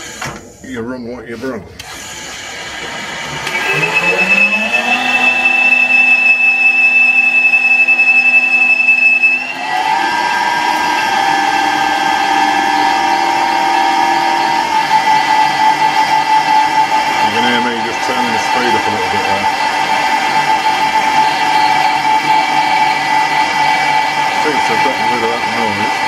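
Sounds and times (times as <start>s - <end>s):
lathe motor hum: 1.8s - 26.0s
lathe tool squealing whistle: 3.5s - 26.0s.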